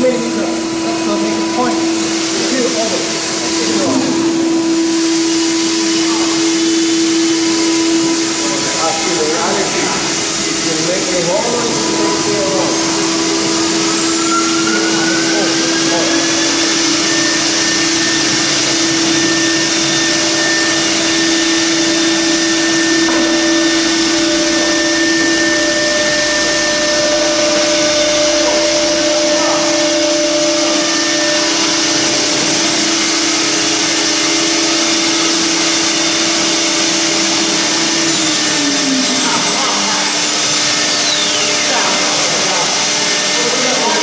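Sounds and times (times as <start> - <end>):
machine hiss: 0.0 - 44.0
spindle high whine: 0.0 - 44.0.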